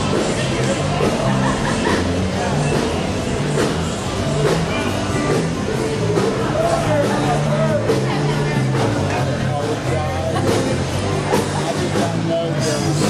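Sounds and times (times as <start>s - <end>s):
loud rock and roll music: 0.0s - 13.0s.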